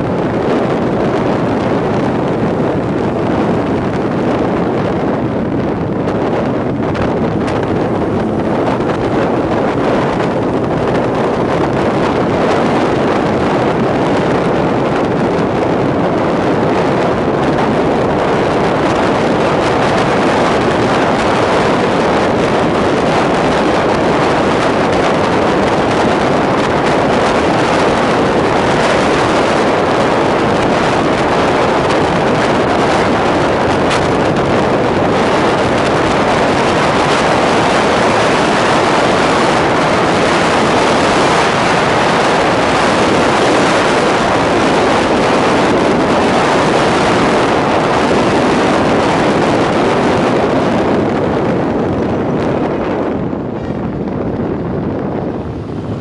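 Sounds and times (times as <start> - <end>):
motorcycle engine: 0.0 - 56.0
road noise: 0.0 - 56.0
wind rushing over microphone: 0.0 - 56.0.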